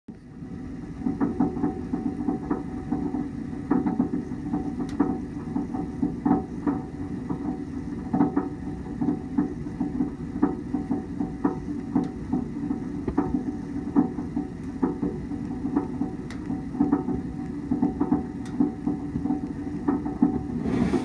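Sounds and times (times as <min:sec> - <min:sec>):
gas boiler rumbling: 0:00.2 - 0:21.0.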